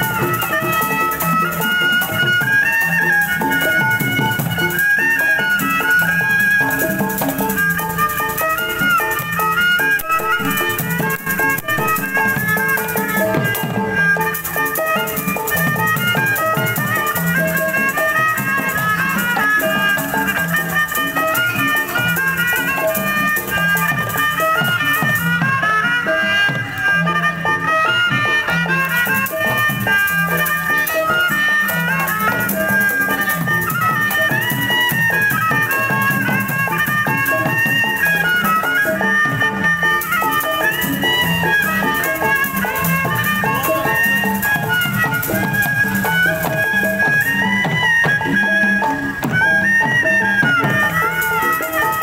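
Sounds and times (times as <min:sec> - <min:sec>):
instrumental street music: 0:00.0 - 0:52.0
rattle-like percussion: 0:00.0 - 0:52.0.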